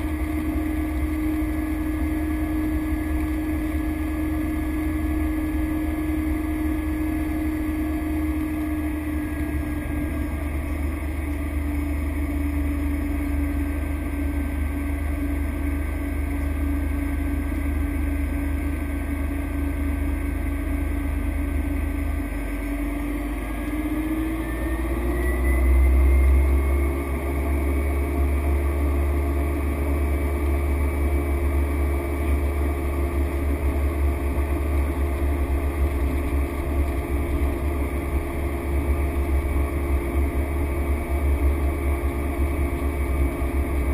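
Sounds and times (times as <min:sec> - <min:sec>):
turboprop engine running: 0:00.0 - 0:43.9.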